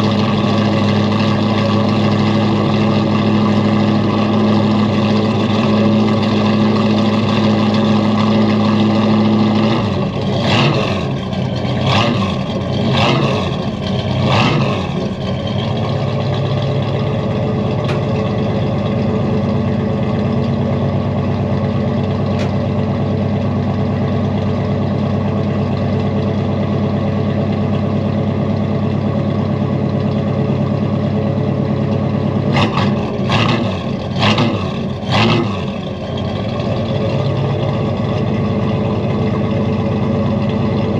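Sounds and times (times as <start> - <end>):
car engine idling and blipped: 0.0 - 40.9.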